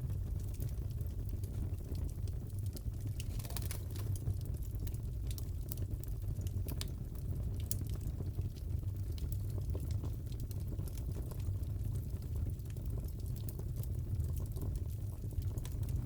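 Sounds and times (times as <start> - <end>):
low rumble of burning fire: 0.0 - 16.0
fire pops and snaps: 0.2 - 16.0.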